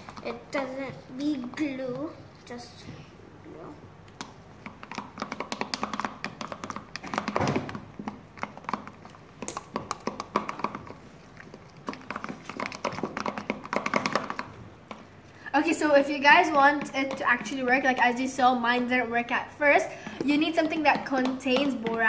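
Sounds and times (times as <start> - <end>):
utensil stirring slime in bowl: 0.0 - 2.6, 4.1 - 22.0.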